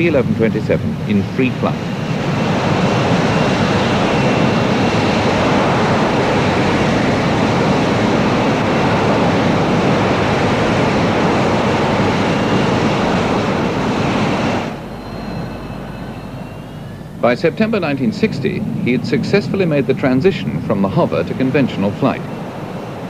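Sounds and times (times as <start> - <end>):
faint high whine: 0.0 - 23.0
jet engine roar: 0.0 - 23.0.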